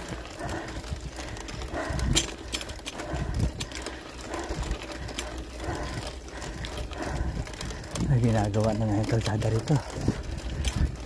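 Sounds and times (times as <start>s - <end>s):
low tyre rumble: 0.0s - 11.0s
mountain bike rattling and clicking: 0.0s - 11.0s.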